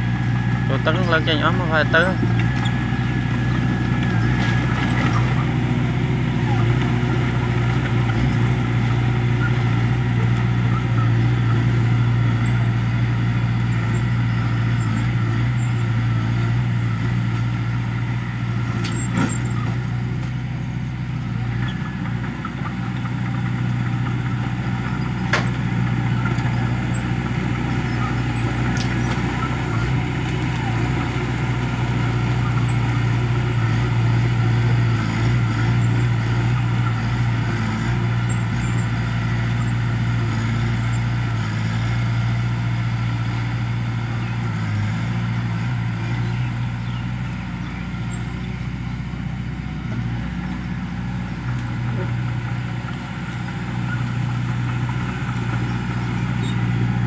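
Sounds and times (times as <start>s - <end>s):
bulldozer diesel engine: 0.0s - 57.0s.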